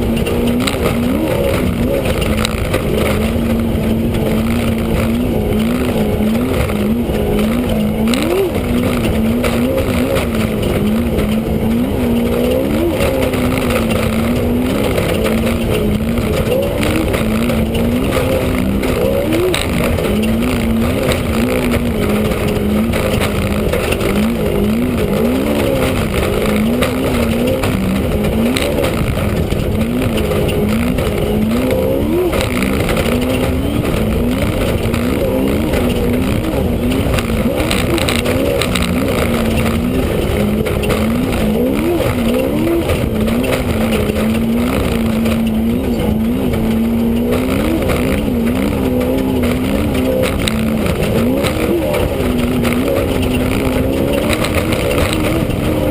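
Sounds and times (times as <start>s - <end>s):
engine revving: 0.0s - 55.9s
knocks and rattles: 0.0s - 55.9s.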